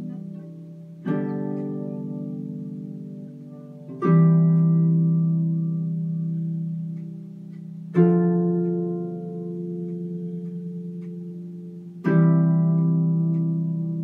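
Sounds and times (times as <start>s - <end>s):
harp plucked chords: 0.0s - 14.0s.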